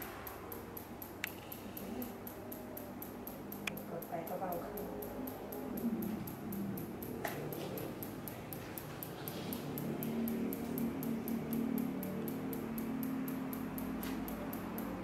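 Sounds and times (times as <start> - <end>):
shockwave device sharp clicks: 0.0 - 15.0.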